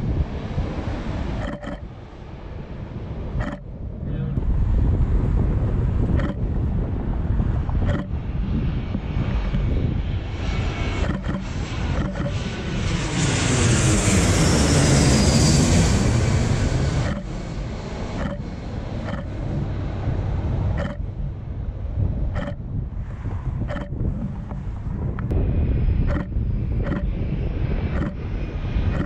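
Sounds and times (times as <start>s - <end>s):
jet airliner passing overhead: 0.0s - 29.0s
wind rumble on microphone: 0.0s - 29.0s.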